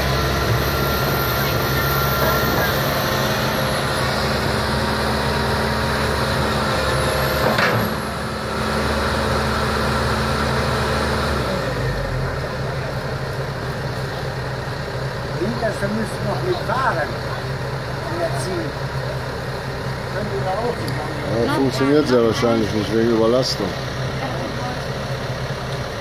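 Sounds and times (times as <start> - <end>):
excavator diesel engines running: 0.0 - 26.0
hydraulics working: 0.0 - 26.0.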